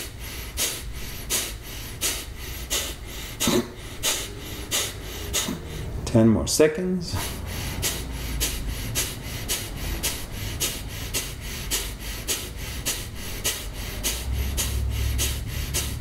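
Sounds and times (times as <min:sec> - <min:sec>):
man exhaling sharply through nose: 0:00.0 - 0:06.0, 0:07.1 - 0:16.0.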